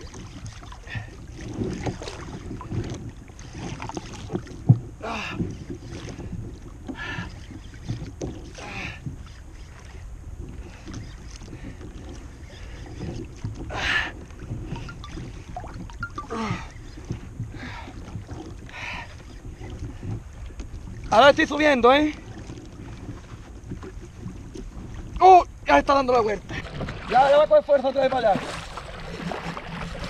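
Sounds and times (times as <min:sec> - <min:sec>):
wind on microphone: 0:00.0 - 0:27.7
water lapping against kayak hull: 0:00.0 - 0:30.0.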